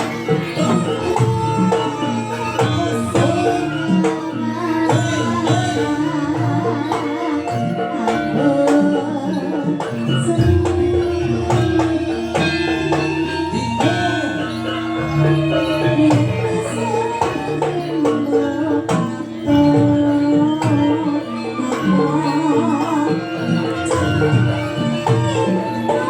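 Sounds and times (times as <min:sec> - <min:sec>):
gongs: 0:00.0 - 0:26.0
hand drums: 0:00.0 - 0:26.0
sustained metallic tones: 0:00.0 - 0:26.0
wavering melody line: 0:00.0 - 0:26.0.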